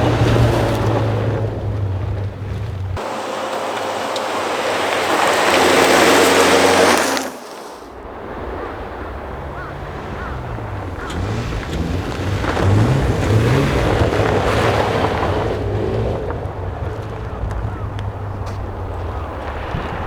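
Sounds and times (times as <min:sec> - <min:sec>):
loud car engine rushing: 0:00.0 - 0:20.0
rally car engine revving: 0:00.0 - 0:20.0.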